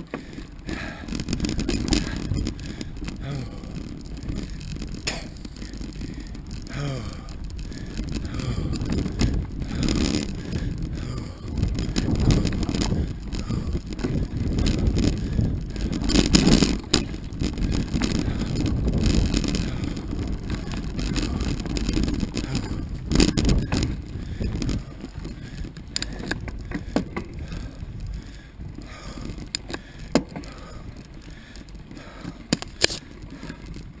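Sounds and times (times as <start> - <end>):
bike rattling over bumps: 0.0 - 34.0
bike tyres crunching on gravel: 0.0 - 34.0
wind on microphone: 0.0 - 34.0.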